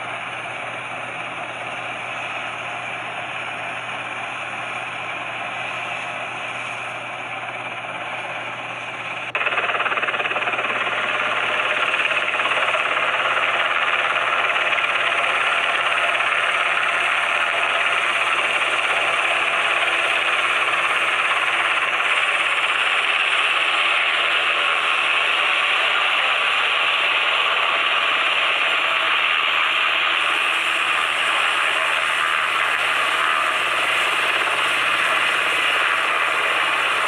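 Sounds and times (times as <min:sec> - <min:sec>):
helicopter rotor and engines: 0:00.0 - 0:37.0.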